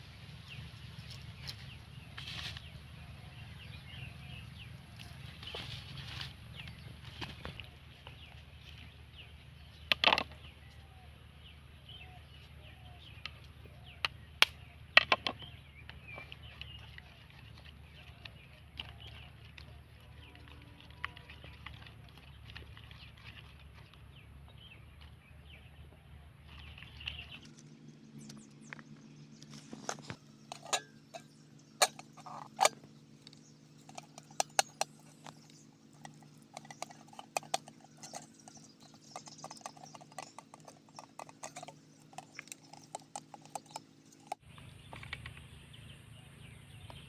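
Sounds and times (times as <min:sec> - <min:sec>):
outdoor ambience: 0:00.0 - 0:47.0.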